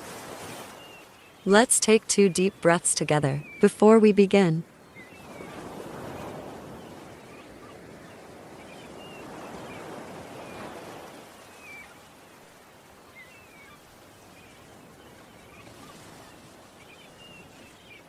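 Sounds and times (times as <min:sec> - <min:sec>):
ocean waves washing: 0:00.0 - 0:18.0
birds chirping faintly: 0:00.6 - 0:18.0.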